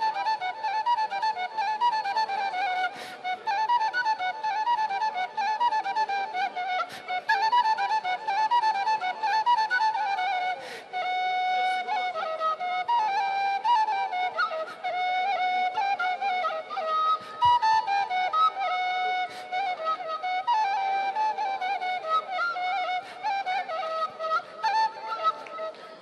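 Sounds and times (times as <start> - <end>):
wooden flute folk melody: 0.0 - 26.0.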